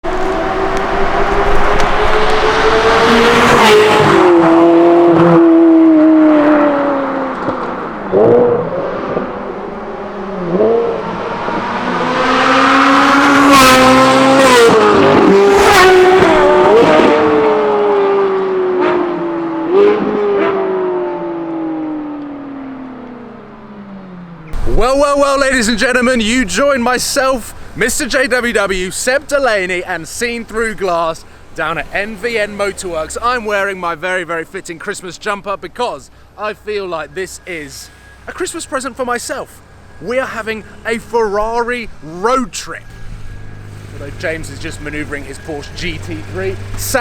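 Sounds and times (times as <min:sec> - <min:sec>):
exhaust cracks: 0:00.0 - 0:17.8, 0:24.3 - 0:36.4, 0:37.2 - 0:47.0
car engine accelerating: 0:00.0 - 0:33.8, 0:37.2 - 0:47.0.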